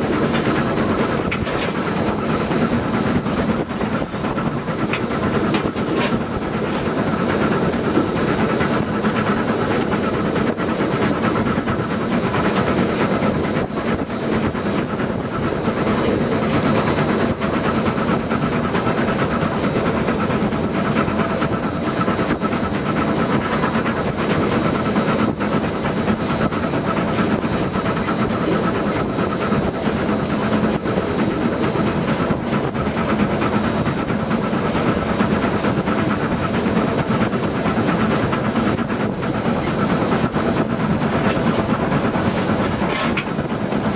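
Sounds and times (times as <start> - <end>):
rail clacks: 0.0 - 43.9
thin high whine: 0.0 - 43.9
train rumbling on track: 0.0 - 43.9.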